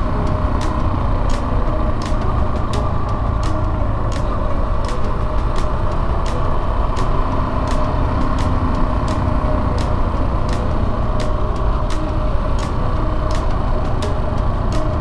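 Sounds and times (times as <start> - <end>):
sharp ticks: 0.0 - 15.0.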